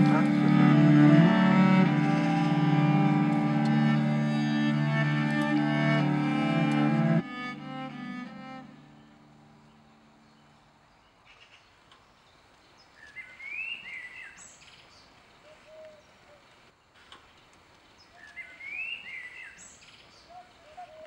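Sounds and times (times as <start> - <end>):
faint outdoor background noise: 0.0 - 21.0.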